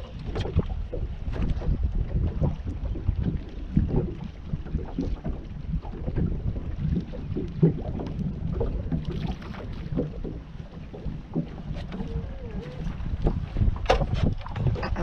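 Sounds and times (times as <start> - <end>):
water slapping against hull: 0.0 - 15.0
wind rumbling on microphone: 0.0 - 15.0.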